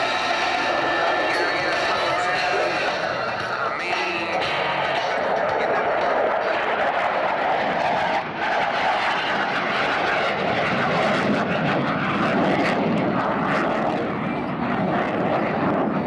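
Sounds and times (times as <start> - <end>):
airplane engine in flight: 0.0 - 16.0.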